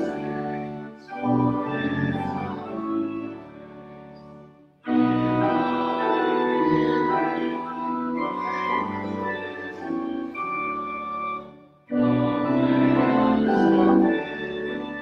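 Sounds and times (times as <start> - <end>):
pipe organ playing a hymn: 0.0 - 15.0.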